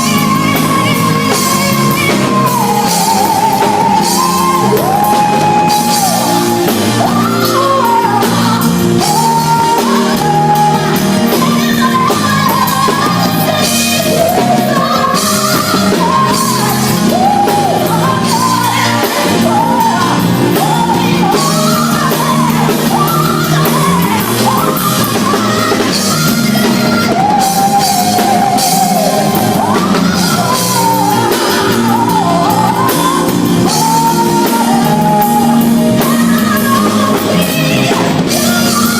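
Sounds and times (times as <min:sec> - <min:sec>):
band accompaniment: 0:00.0 - 0:38.9
person singing loudly: 0:00.0 - 0:38.9.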